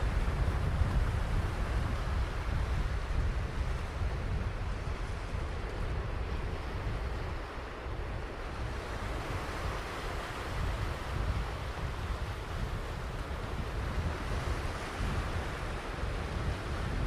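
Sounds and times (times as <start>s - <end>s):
ocean waves breaking: 0.0s - 17.0s
wind buffeting microphone: 0.0s - 17.0s.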